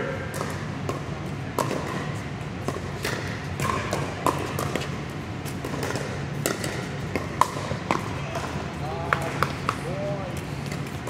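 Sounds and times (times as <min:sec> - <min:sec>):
ball bouncing on hard court: 0:00.0 - 0:09.9.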